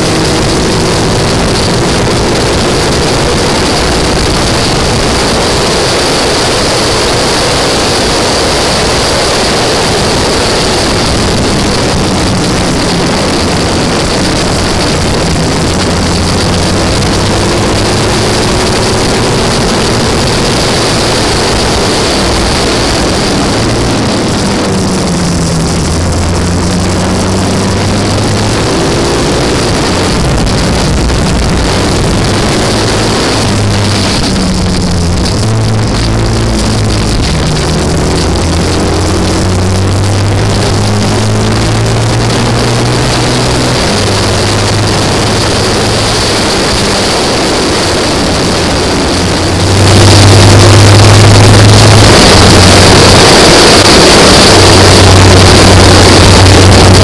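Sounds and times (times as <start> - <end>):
loud rushing noise: 0.0 - 57.0
racing engine running hard: 0.0 - 57.0.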